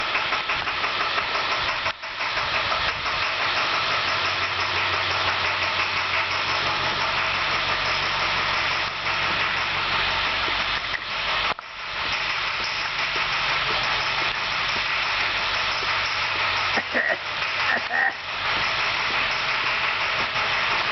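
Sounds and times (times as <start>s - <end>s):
diesel engine idling: 0.0s - 20.9s
engine knock: 0.0s - 20.9s.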